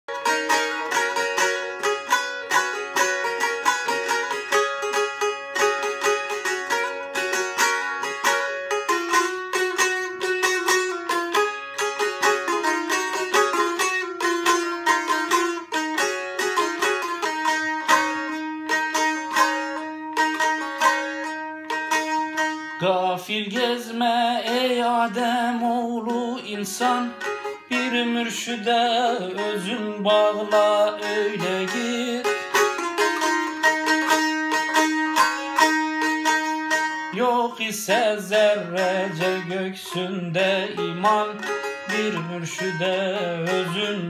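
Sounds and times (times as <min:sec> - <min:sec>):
plucked long-necked lute: 0:00.1 - 0:44.0.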